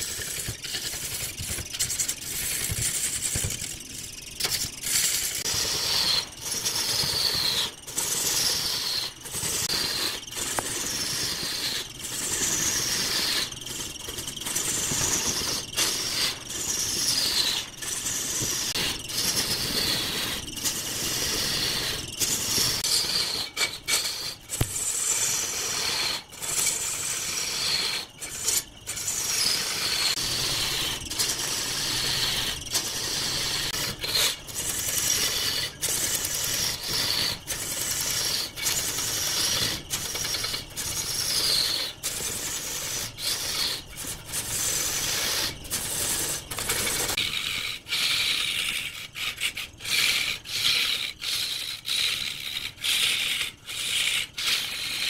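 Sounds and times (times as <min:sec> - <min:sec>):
tool cutting wood squealing: 0:00.0 - 0:55.0.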